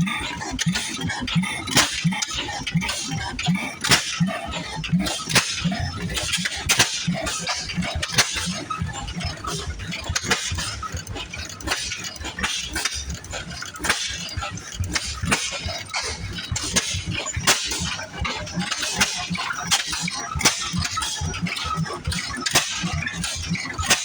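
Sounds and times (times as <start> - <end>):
engine chugging: 0.0 - 24.0.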